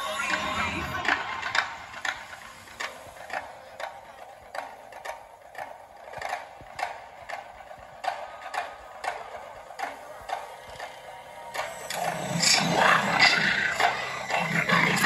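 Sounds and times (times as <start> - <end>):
sharp clock-like ticking: 1.0 - 15.0.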